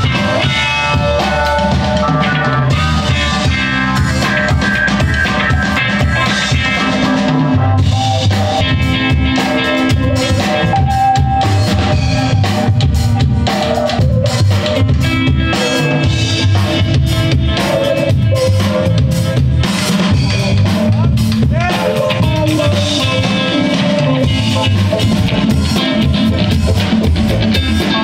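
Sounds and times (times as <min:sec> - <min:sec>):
drum kit steady beat: 0:00.0 - 0:28.0
electric guitar lines: 0:00.0 - 0:28.0.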